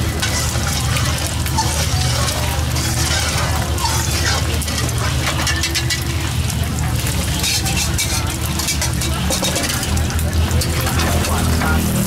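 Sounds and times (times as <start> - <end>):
utensils clinking and knocking: 0.0 - 11.8.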